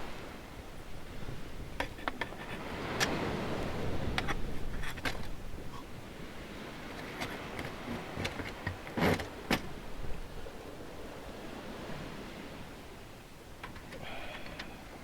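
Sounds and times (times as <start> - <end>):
waves washing on beach: 0.0 - 15.0.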